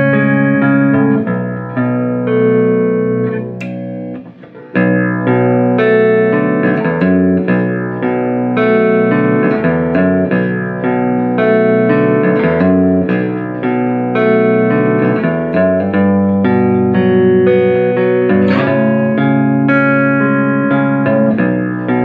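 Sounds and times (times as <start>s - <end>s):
electric guitar through amp: 0.0s - 22.0s.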